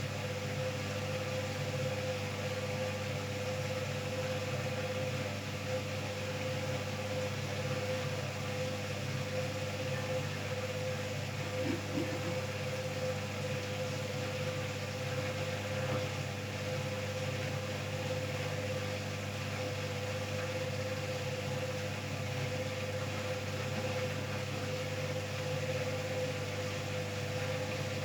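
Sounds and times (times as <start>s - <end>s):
washing machine motor hum: 0.0s - 28.0s.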